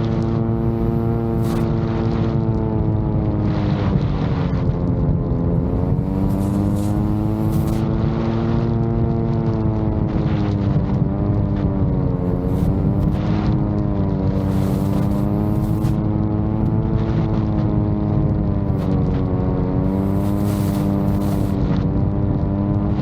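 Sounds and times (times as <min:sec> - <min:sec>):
drone propellers humming: 0:00.0 - 0:08.9, 0:09.6 - 0:18.0, 0:18.6 - 0:22.7
wind buffeting microphone: 0:00.0 - 0:23.0.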